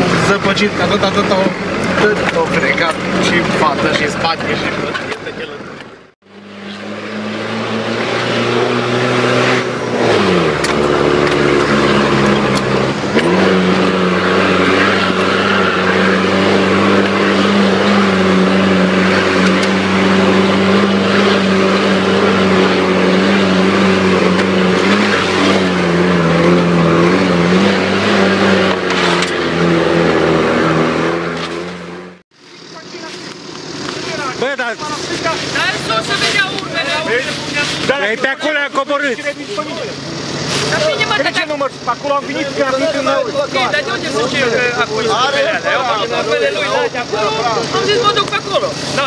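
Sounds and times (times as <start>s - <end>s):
off-road vehicle engine pulling: 0.0s - 49.0s.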